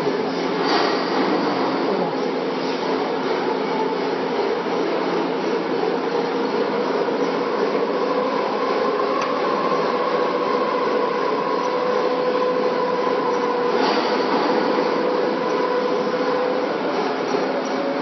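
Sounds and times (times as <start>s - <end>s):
refrigeration compressor humming: 0.0s - 18.0s.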